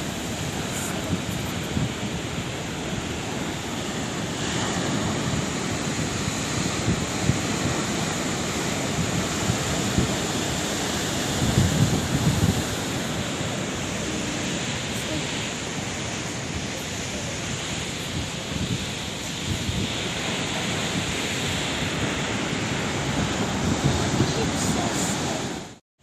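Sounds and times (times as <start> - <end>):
wind buffeting microphone: 0.0 - 25.7
sea waves breaking on shore: 0.0 - 25.8.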